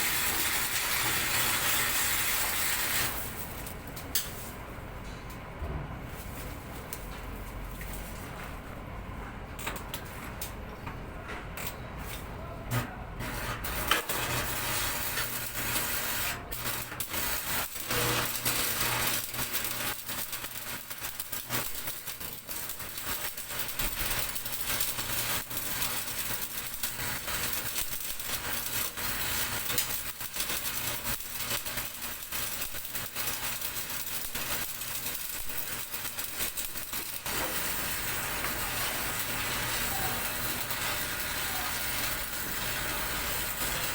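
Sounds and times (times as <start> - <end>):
welding arc crackling: 0.0 - 4.6, 11.6 - 43.9.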